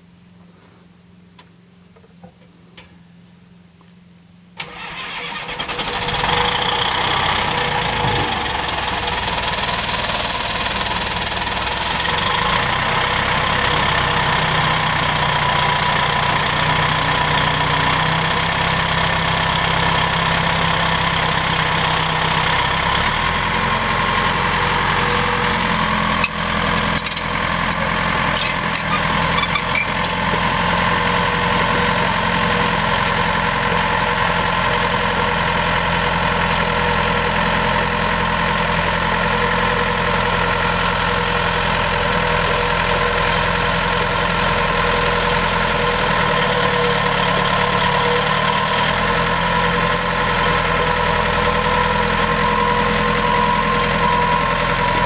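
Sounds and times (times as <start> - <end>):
diesel engine starting and running: 4.6 - 55.0.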